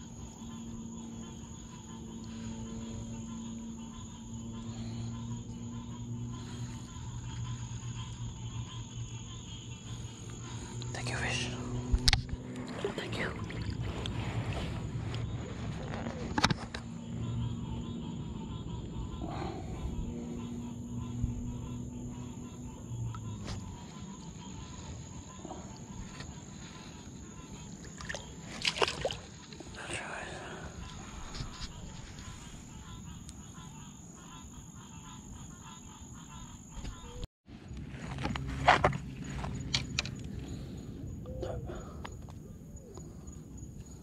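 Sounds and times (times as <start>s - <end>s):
crickets trilling: 0.0s - 44.0s
low steady hum: 0.0s - 44.0s.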